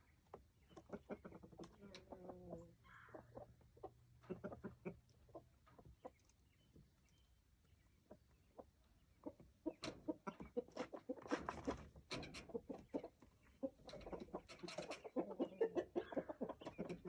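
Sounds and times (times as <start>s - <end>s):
chickens clucking: 0.1s - 17.0s.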